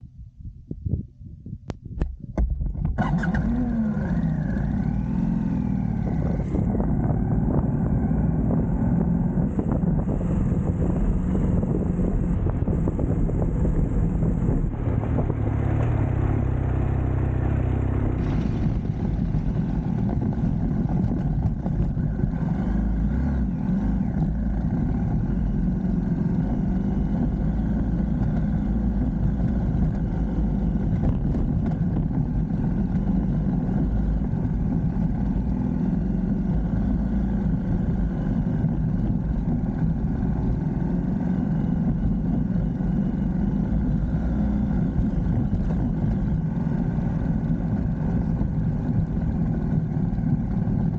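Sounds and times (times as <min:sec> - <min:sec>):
vehicle engine driving: 0:00.0 - 0:50.9.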